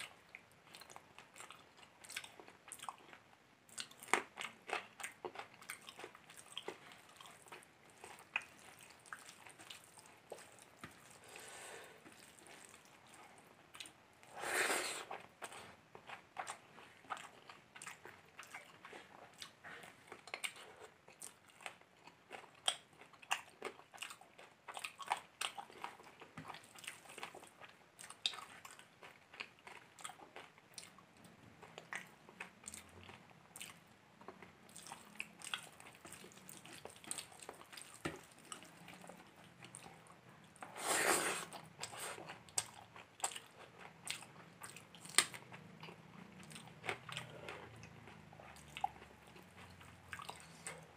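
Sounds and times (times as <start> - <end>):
chewing and mouth sounds: 0.0 - 50.9.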